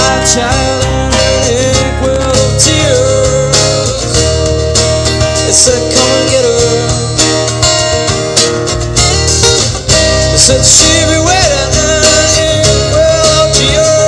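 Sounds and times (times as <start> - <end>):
acoustic rock band playing: 0.0 - 14.0
lead guitar with bending notes: 0.0 - 14.0.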